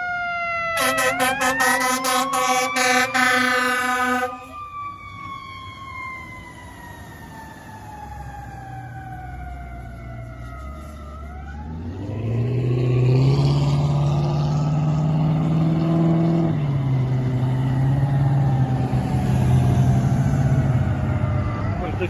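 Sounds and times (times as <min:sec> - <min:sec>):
diesel engine revving: 0:00.8 - 0:04.7, 0:06.2 - 0:22.0.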